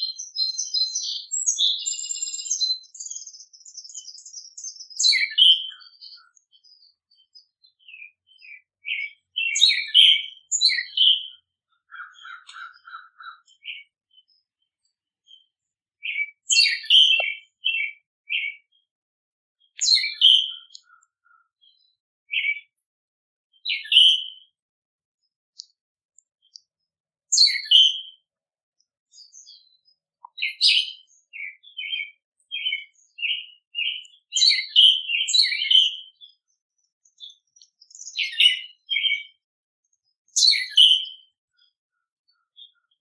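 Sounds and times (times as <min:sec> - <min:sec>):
small songbirds chirping: 0:00.0 - 0:22.9, 0:23.5 - 0:43.0.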